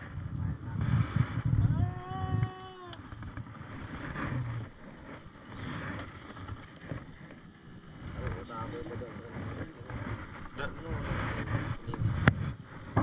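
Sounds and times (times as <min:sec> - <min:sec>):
low rumbling on boat: 0:00.0 - 0:13.0
wind on microphone: 0:00.0 - 0:13.0.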